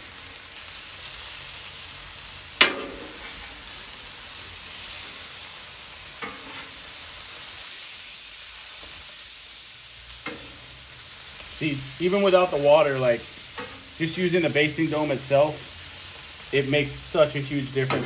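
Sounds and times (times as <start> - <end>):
sausages and onions sizzling: 0.0 - 18.0.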